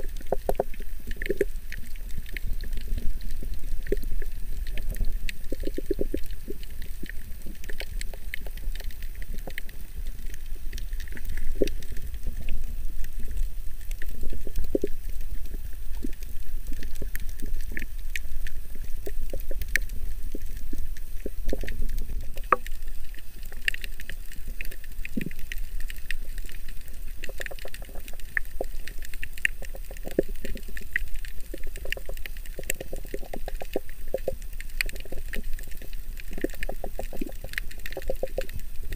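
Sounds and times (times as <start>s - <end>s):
low rumble of moving water: 0.0s - 38.9s
underwater clicks and crackles: 0.0s - 38.9s.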